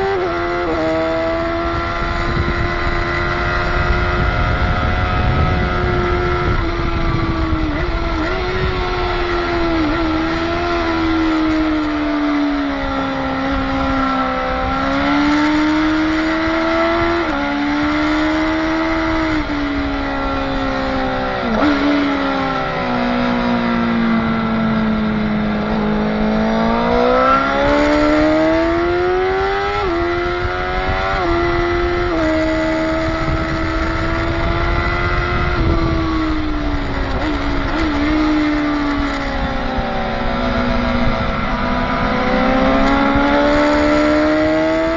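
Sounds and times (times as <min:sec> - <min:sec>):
motorcycle engine revving: 0:00.0 - 0:44.9
wind rushing over microphone: 0:00.0 - 0:44.9.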